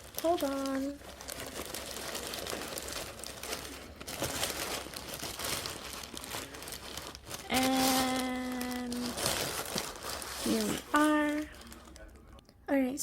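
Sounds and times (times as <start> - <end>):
packaging crinkling: 0.0 - 12.4.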